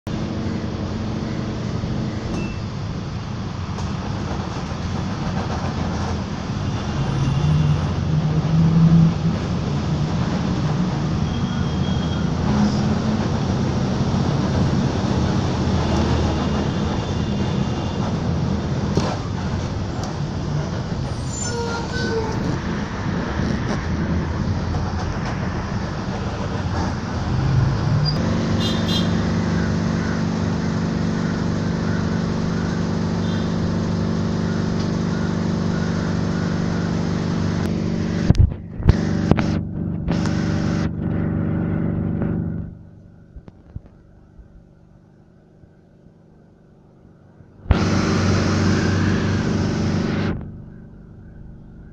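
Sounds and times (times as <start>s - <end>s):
bus engine running: 0.0s - 51.9s
road noise: 0.0s - 51.9s.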